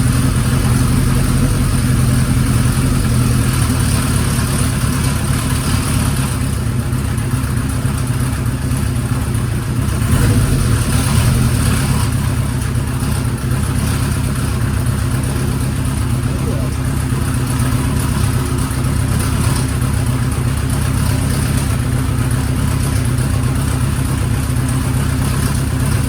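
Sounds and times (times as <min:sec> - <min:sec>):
abnormal mechanical engine noise: 0:00.0 - 0:26.0
motorcycle engine running: 0:00.0 - 0:26.0.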